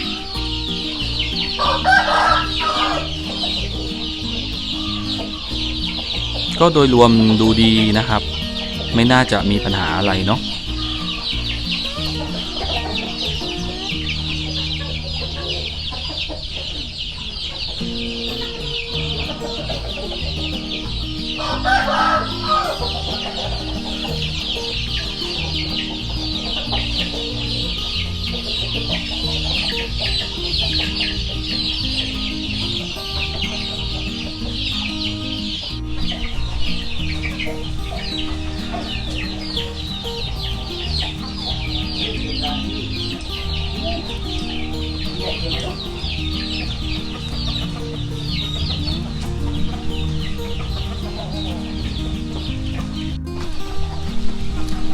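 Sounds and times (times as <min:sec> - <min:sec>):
background music: 0:00.0 - 0:54.9
chickens clucking: 0:00.0 - 0:54.9
chicks peeping: 0:00.0 - 0:54.9.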